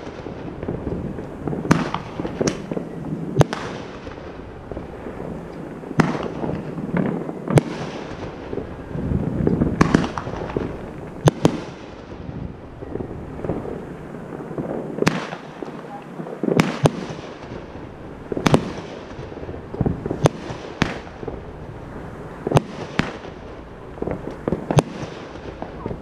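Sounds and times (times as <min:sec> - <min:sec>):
fireworks bangs: 0:00.0 - 0:26.0
fireworks crackling and rumble: 0:00.0 - 0:26.0.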